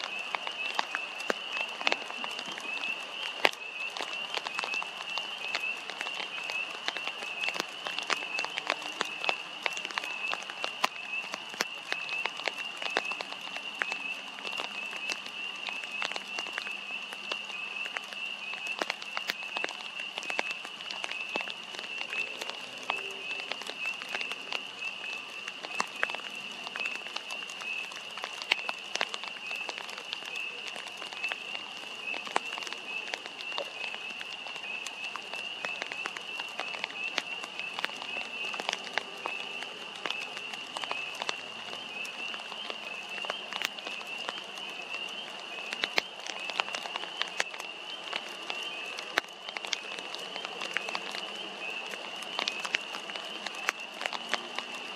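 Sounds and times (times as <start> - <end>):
frogs trilling: 0.0 - 54.9
raindrops ticking: 0.0 - 54.9.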